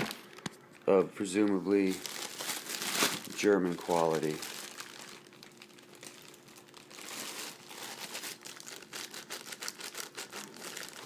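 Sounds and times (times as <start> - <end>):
packaging crinkling and rustling: 1.4 - 11.0.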